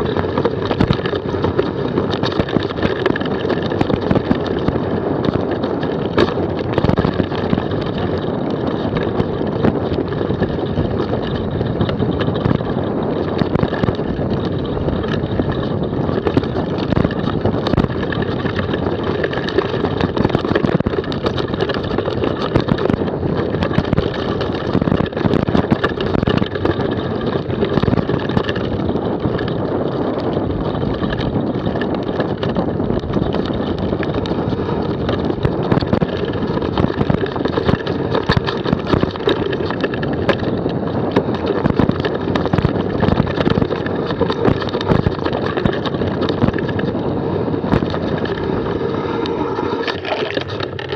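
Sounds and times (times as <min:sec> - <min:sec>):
bike rattling over stones: 0:00.0 - 0:50.9
wind on microphone: 0:00.0 - 0:50.9.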